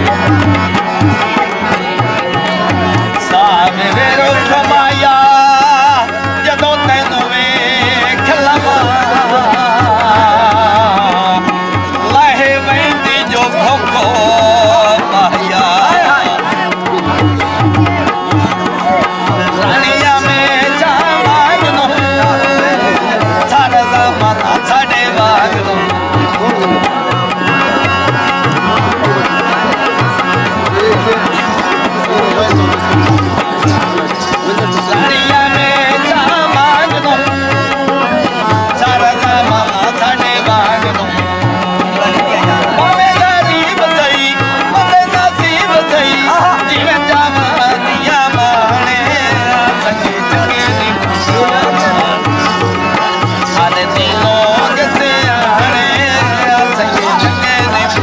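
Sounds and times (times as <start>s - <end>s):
harmonium melody: 0.0s - 58.0s
tabla drumming: 0.0s - 58.0s.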